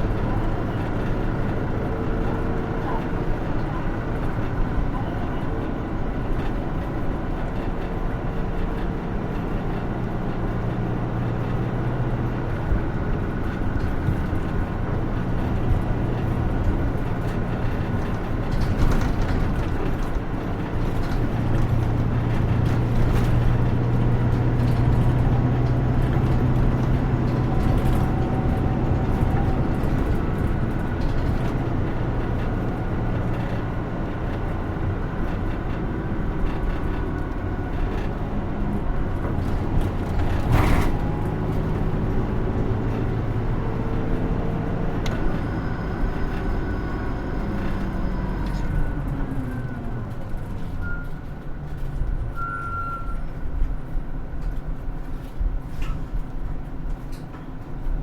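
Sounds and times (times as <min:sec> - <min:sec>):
bus diesel engine droning: 0:00.0 - 0:58.0
road noise: 0:00.0 - 0:58.0.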